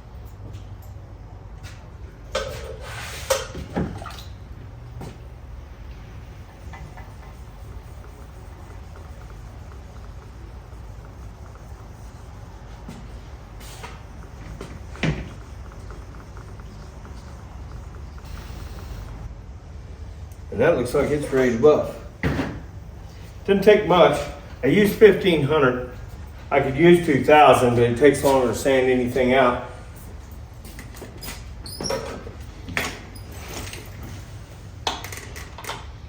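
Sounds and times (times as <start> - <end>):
steady low hum: 3.4 - 34.9.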